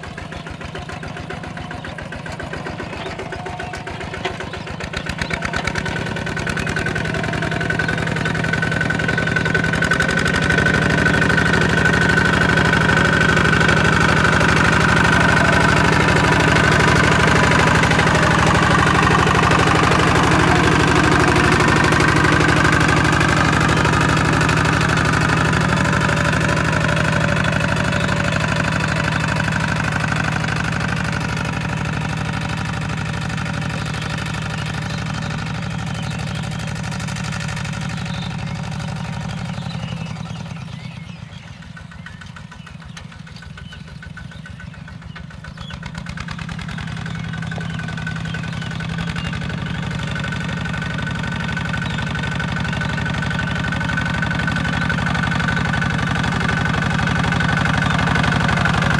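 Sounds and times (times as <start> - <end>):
diesel tractor engine running: 0.0 - 58.9.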